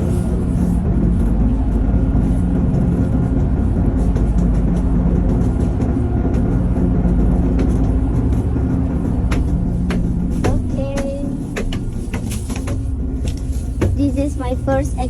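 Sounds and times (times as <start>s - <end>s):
heavy ship engines droning: 0.0s - 15.0s.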